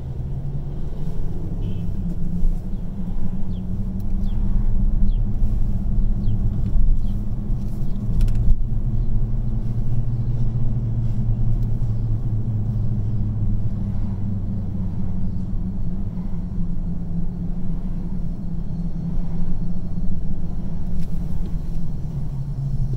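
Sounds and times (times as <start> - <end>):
car engine and tyres rumbling: 0.0 - 22.9.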